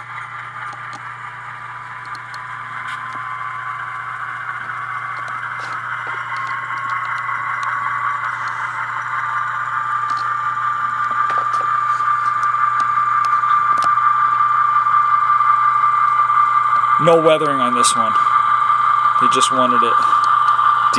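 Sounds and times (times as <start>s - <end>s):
model locomotive engine drone: 0.0s - 20.9s.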